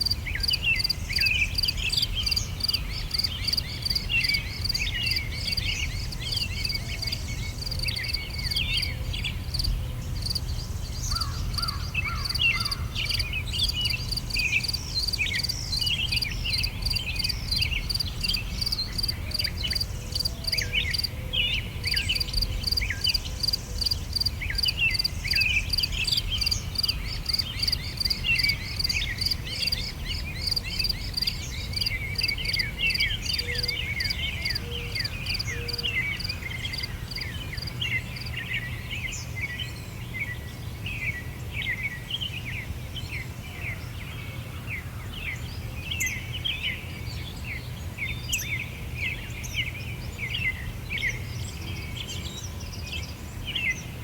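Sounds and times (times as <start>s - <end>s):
small birds chirping: 0.0s - 44.2s.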